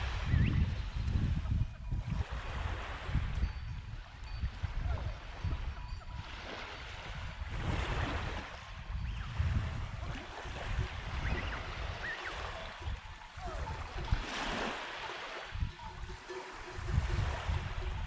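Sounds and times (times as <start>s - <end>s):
small waves lapping on beach: 0.0s - 18.0s
wind buffeting microphone: 0.0s - 18.0s.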